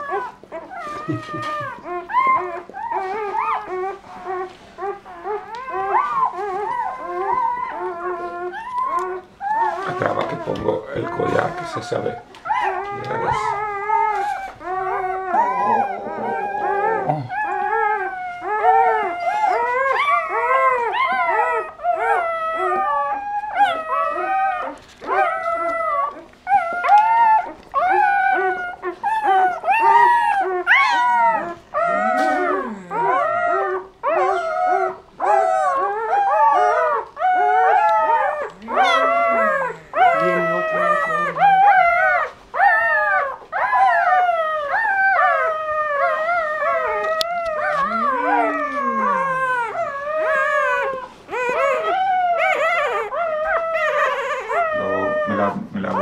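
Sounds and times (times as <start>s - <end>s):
puppies crying: 0.0s - 56.0s.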